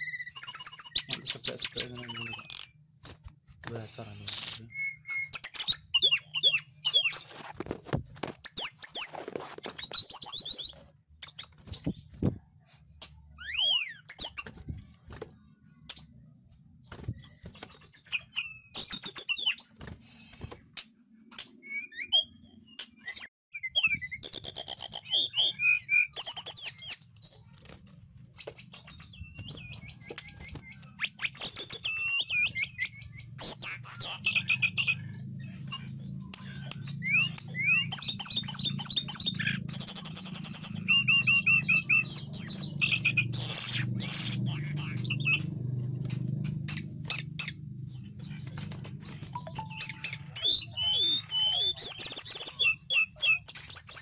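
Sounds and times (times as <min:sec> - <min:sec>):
bird singing whistles and trills: 0:00.0 - 0:02.8, 0:04.6 - 0:07.3, 0:08.5 - 0:12.0, 0:13.3 - 0:14.5, 0:16.9 - 0:27.5, 0:28.4 - 0:45.6, 0:46.7 - 0:54.0.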